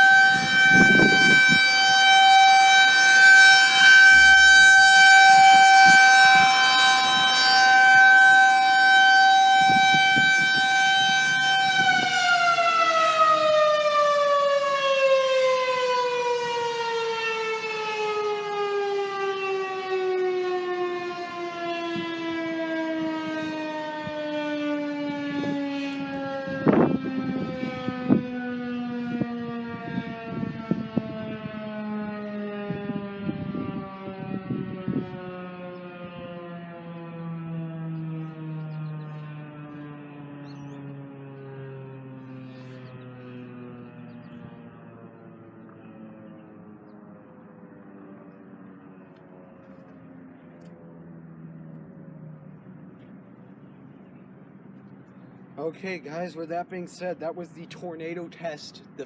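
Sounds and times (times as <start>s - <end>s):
tornado siren winding down: 0.0s - 59.0s.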